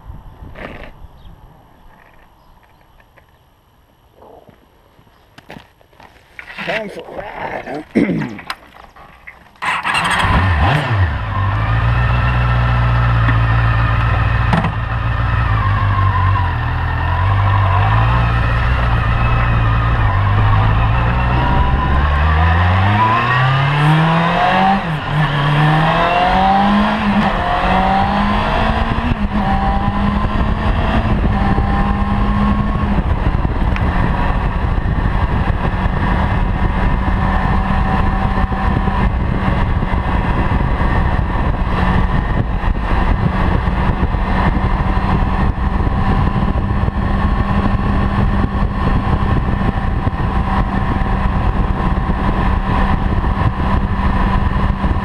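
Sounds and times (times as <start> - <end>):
motorcycle engine accelerating: 9.0 - 55.0.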